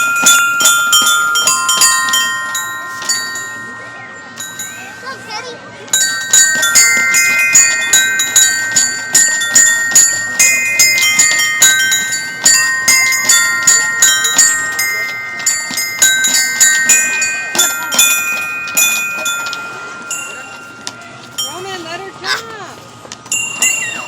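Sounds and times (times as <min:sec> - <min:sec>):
metal chimes ringing: 0:00.0 - 0:24.0.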